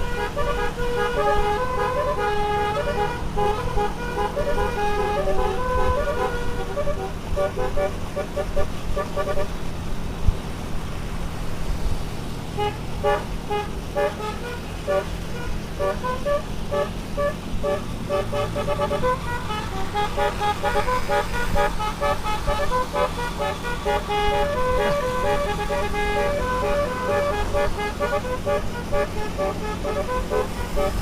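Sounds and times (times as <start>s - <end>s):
multi-tone musical vehicle horn: 0.0s - 9.6s, 12.5s - 31.0s.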